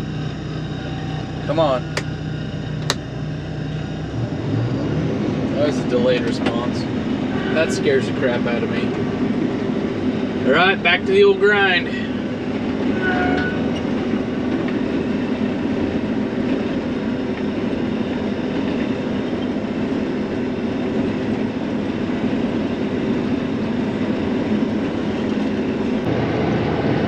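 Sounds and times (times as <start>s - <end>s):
swather engine droning: 0.0s - 27.0s.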